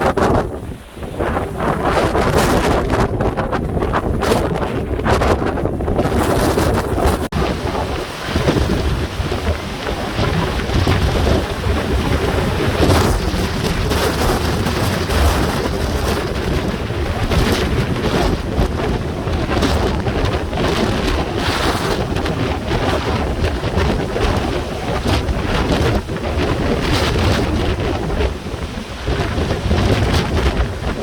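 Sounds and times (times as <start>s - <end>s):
heavy surf breaking: 0.0s - 31.0s
strong wind buffeting microphone: 0.0s - 31.0s.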